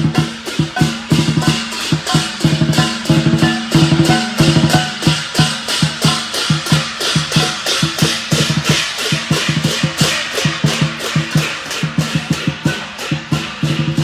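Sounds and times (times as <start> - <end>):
cymbals crashing: 0.0 - 14.0
large drum beating: 0.0 - 14.0.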